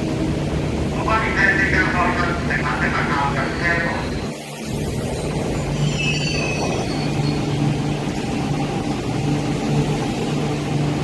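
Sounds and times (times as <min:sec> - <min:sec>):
metro train low hum: 0:00.0 - 0:11.0.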